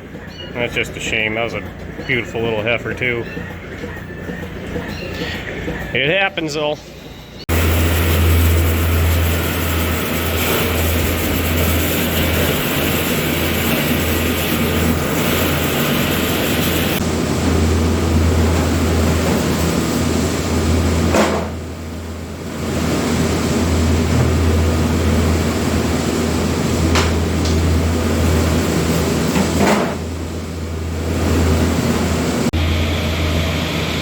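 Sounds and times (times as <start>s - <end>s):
engine humming steadily: 0.0s - 34.0s.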